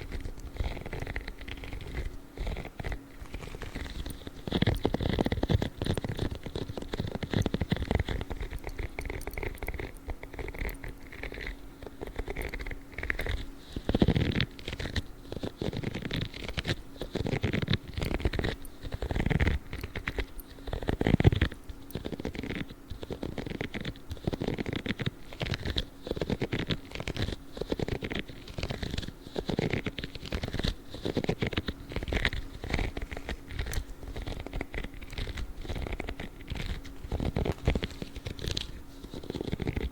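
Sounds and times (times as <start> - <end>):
gloves rubbing and scratching: 0.0 - 39.9.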